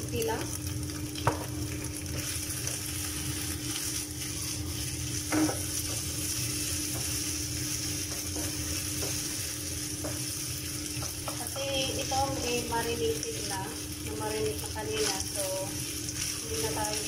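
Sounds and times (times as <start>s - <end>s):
meat sizzling in a frying pan: 0.0s - 17.0s
spatula scraping meat in pan: 2.1s - 17.0s.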